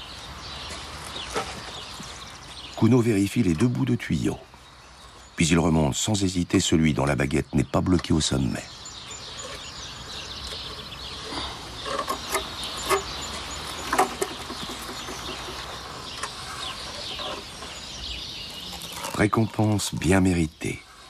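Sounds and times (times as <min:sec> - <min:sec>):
bird calls: 0:00.0 - 0:21.0
outdoor ambience: 0:00.0 - 0:21.0.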